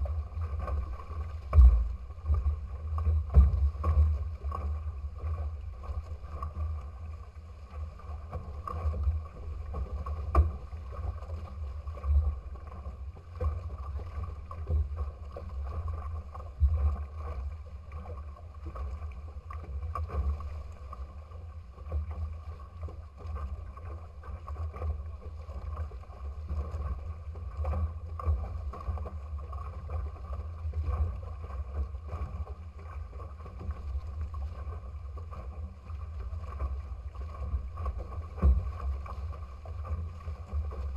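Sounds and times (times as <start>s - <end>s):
water rushing past hulls: 0.0s - 40.9s
water splashes: 0.0s - 40.9s.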